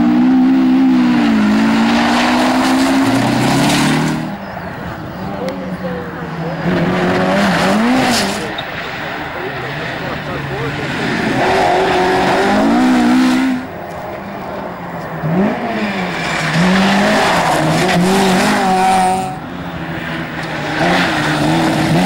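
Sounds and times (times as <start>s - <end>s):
rally car engines revving: 0.0s - 22.0s.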